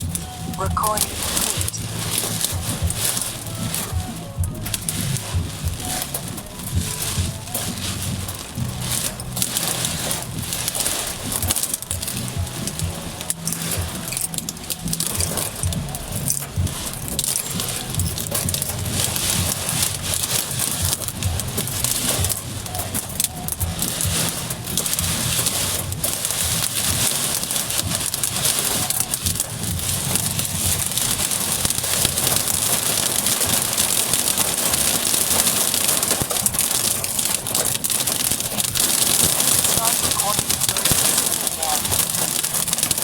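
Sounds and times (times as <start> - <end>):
heavy rain on car roof: 0.0 - 43.0.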